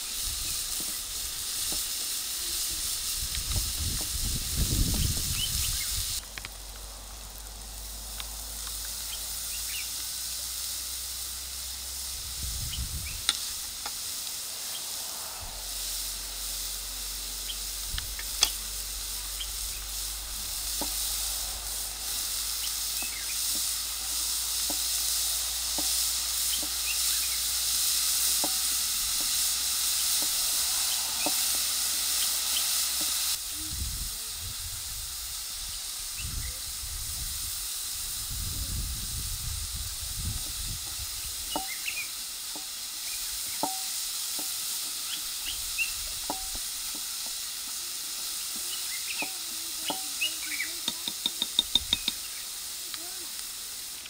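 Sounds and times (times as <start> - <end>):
steady high hiss: 0.0 - 54.0
vegetables sizzling in a frying pan: 0.0 - 54.0.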